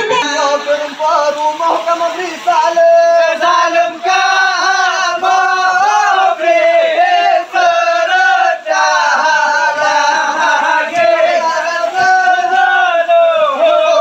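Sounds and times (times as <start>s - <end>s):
men chanting unaccompanied: 0.0s - 14.0s.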